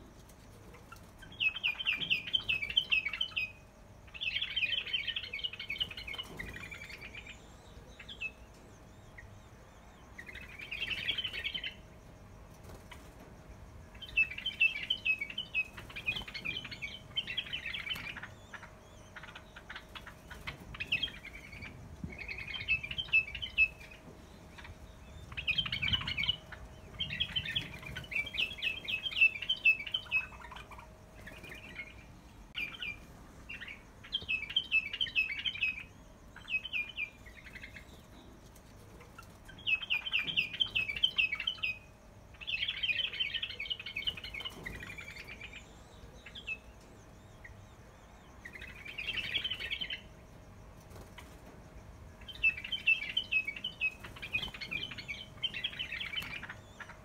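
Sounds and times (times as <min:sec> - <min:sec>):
bulbuls chirping and chattering: 0:00.0 - 0:57.0
faint steady hum: 0:00.0 - 0:57.0.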